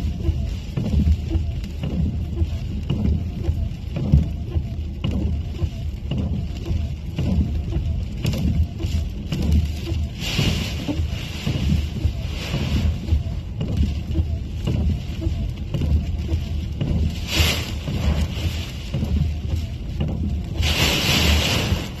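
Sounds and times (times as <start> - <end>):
rain hitting windscreen: 0.0 - 22.0
storm wind buffeting a car: 0.0 - 22.0
windscreen wipers sweeping: 0.0 - 22.0.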